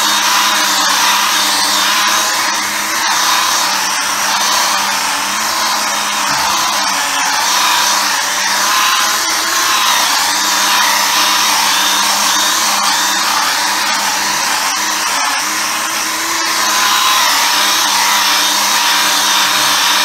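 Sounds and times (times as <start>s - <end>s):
polisher motor whine: 0.0s - 20.0s.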